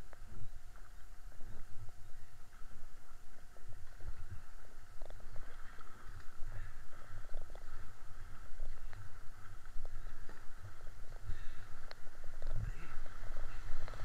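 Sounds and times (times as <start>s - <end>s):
canoe paddle strokes: 0.0s - 14.0s
wind rumble on microphone: 0.0s - 14.0s.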